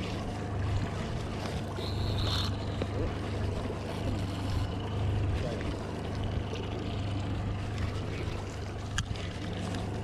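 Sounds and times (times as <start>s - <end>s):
boat motor running: 0.0s - 10.0s
water noise: 0.0s - 10.0s
wind: 0.0s - 10.0s.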